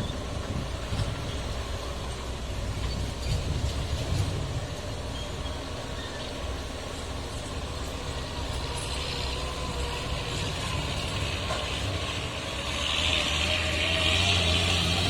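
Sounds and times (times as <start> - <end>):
dump truck engine running: 0.0 - 15.0.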